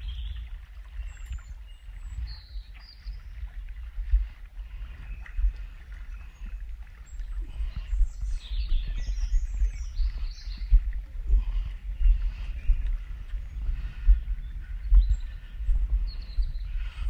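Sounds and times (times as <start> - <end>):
small birds chirping: 0.0 - 17.0
low rumble: 3.1 - 17.0.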